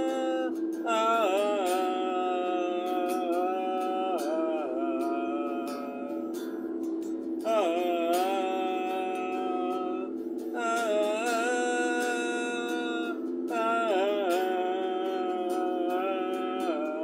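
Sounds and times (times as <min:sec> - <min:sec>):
man singing long notes: 0:00.0 - 0:06.6, 0:07.4 - 0:17.0.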